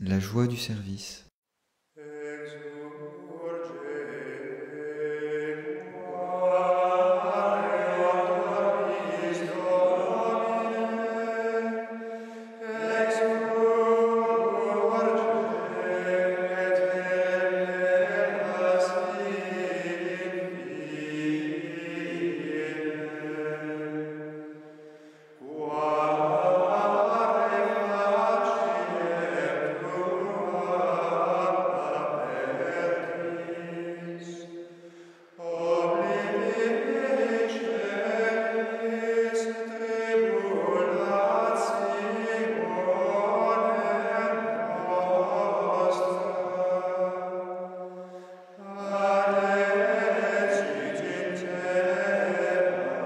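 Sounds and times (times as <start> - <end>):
male choir chanting: 2.0 - 12.0, 12.6 - 24.5, 25.4 - 34.6, 35.4 - 53.0.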